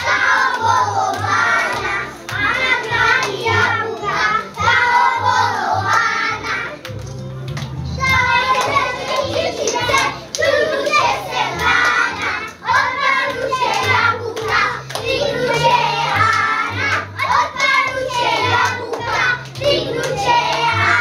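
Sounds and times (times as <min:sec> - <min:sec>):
children singing: 0:00.0 - 0:06.8, 0:08.0 - 0:21.0.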